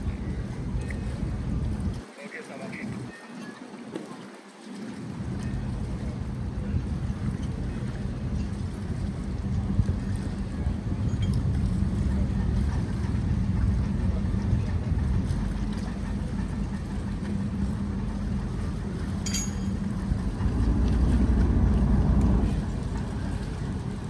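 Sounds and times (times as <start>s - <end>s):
low engine hum: 0.0s - 2.1s, 4.8s - 24.0s.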